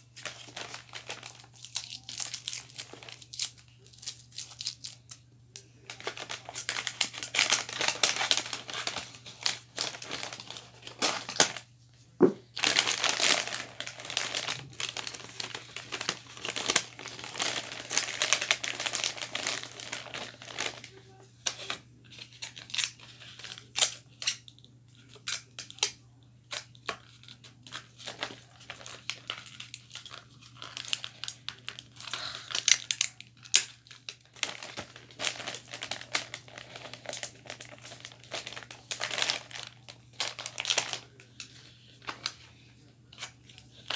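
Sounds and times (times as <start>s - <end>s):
wrapping paper crinkling: 0.0s - 11.7s, 12.5s - 25.9s, 26.5s - 43.9s.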